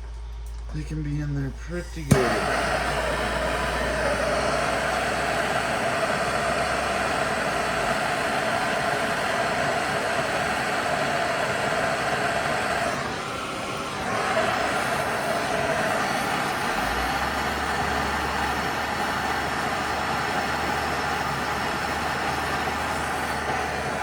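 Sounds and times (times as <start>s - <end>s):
blowtorch flame hissing: 1.9s - 24.0s.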